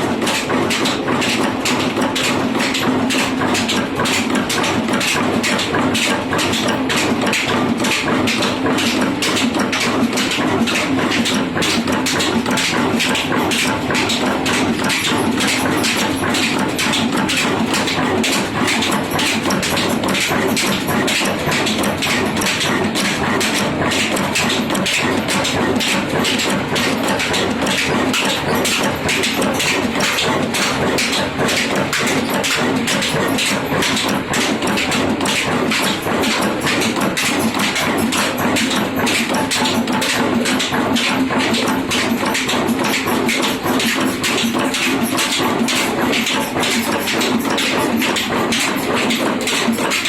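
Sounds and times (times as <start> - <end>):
diesel engine knocking: 0.0 - 50.0.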